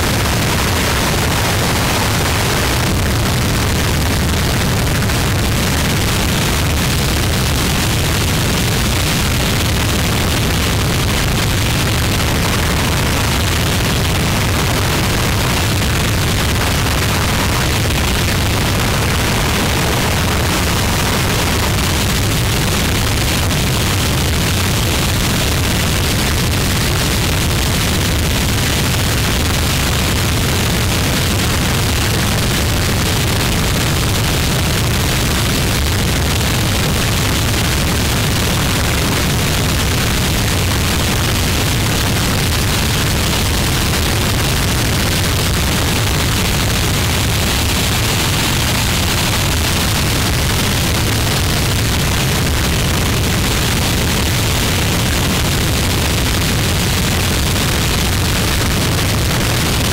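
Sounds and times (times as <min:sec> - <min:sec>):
distorted static noise: 0:00.0 - 0:59.9.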